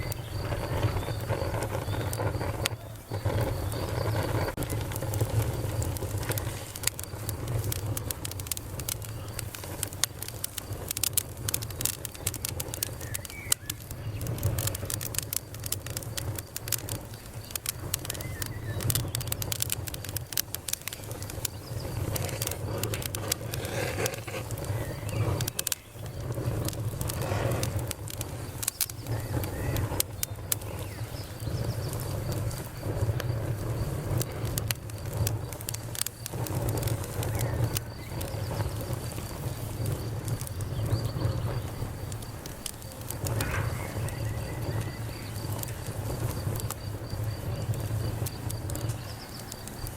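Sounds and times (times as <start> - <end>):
campfire crackling and popping: 0.0 - 49.9
low fire rumble: 0.0 - 49.9.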